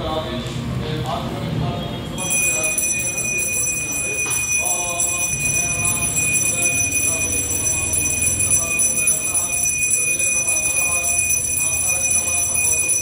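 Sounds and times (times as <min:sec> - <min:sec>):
voices: 0:00.0 - 0:13.0
hand bell ringing: 0:02.2 - 0:13.0.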